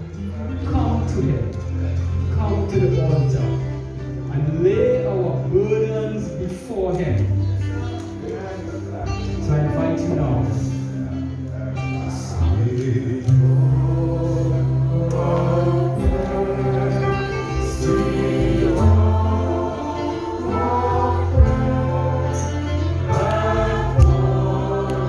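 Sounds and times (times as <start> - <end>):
choir singing gospel: 0.0 - 25.0
sustained bass accompaniment: 0.0 - 25.0.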